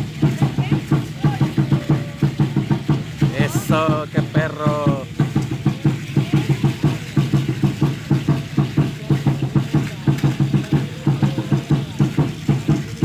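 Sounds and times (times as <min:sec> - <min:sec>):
drum pounding fast beat: 0:00.0 - 0:13.0.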